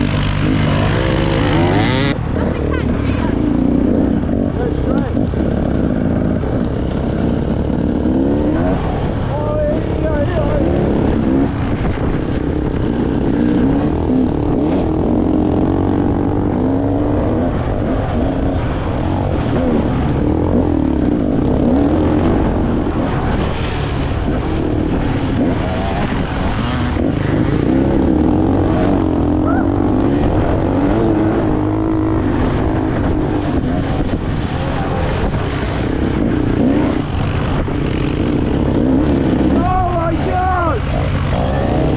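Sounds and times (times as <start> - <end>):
off-road engines revving: 0.0 - 41.9.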